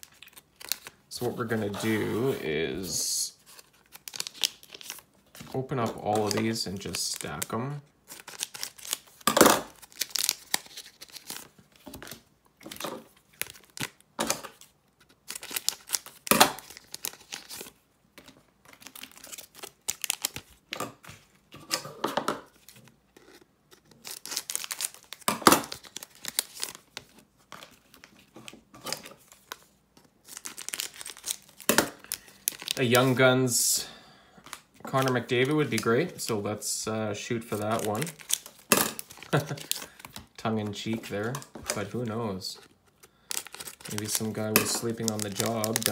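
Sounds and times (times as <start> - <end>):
plastic wrappers tearing and crinkling: 0.0 - 17.8, 18.7 - 20.7, 21.7 - 33.6, 34.4 - 36.4, 37.2 - 45.9.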